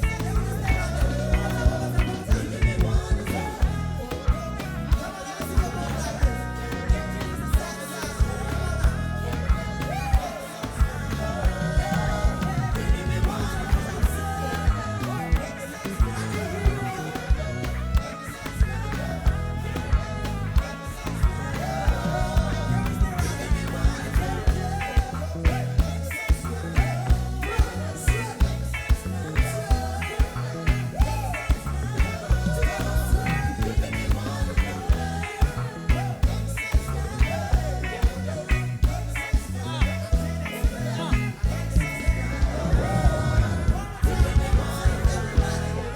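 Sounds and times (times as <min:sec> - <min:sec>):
reggae gospel band playing: 0:00.0 - 0:45.9.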